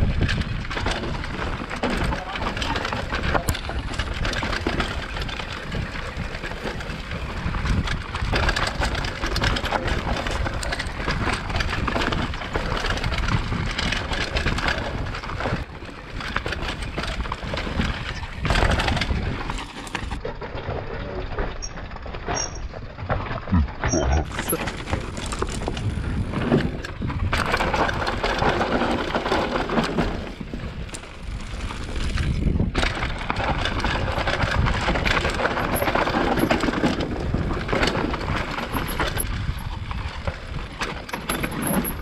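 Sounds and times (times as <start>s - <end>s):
bike jolt: 0.0s - 42.0s
bike rattling and knocking: 0.0s - 42.0s
bike tyres rumbling over dirt: 0.0s - 42.0s.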